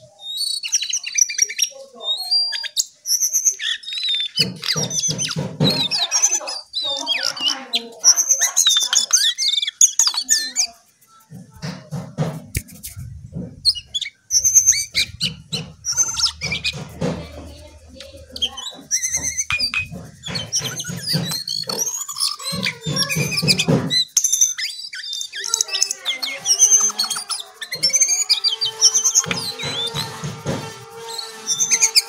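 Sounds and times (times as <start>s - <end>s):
bird singing chattering song: 0.0s - 32.0s.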